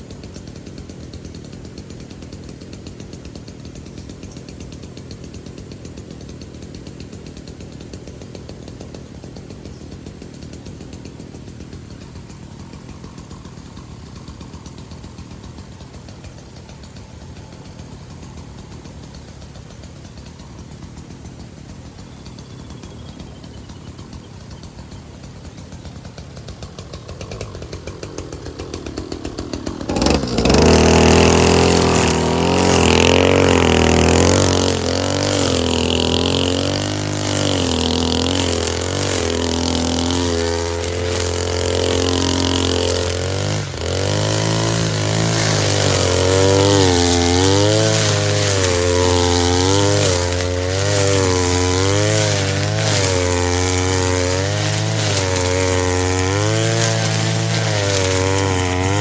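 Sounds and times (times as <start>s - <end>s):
grass cutter engine: 0.0s - 59.0s.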